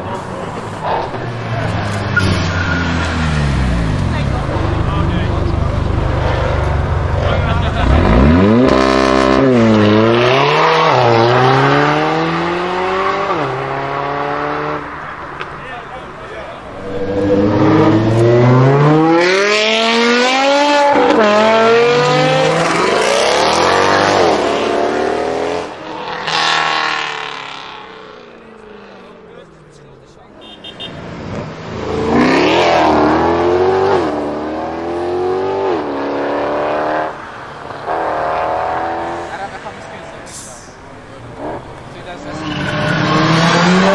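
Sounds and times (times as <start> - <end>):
car engine accelerating with upshifts: 0.0 - 15.5, 16.7 - 30.0, 30.8 - 40.2, 41.2 - 43.9.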